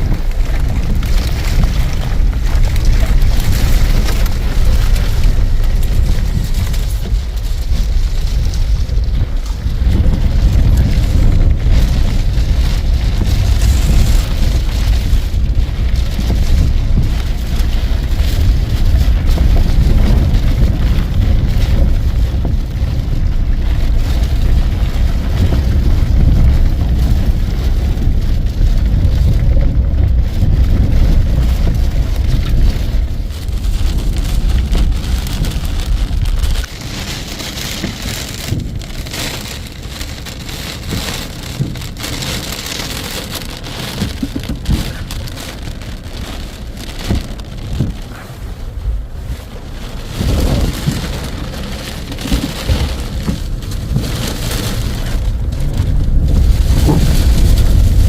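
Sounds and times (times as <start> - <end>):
heavy rain pouring: 0.0 - 58.0
wind rumbling on microphone: 0.0 - 58.0.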